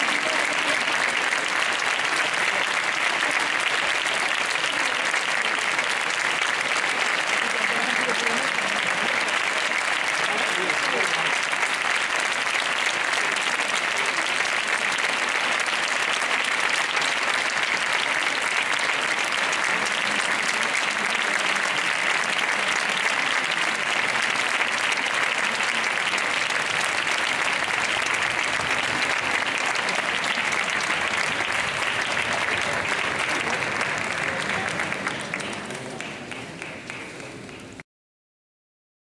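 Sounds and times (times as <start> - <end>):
audience applauding: 0.0 - 37.8.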